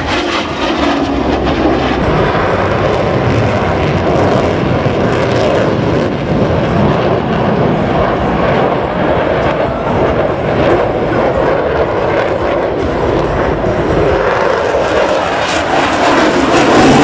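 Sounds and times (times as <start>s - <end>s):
aircraft flying past: 0.0s - 17.0s.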